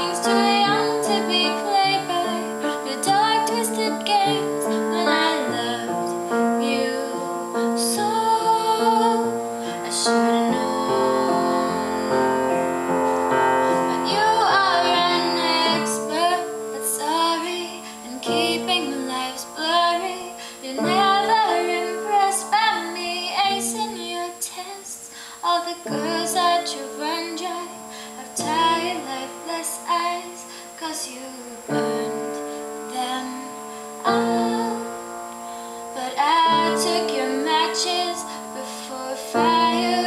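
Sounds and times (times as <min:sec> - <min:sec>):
woman singing pop ballad: 0:00.0 - 0:12.6, 0:13.6 - 0:35.1, 0:35.8 - 0:40.0
piano accompaniment: 0:00.0 - 0:40.0.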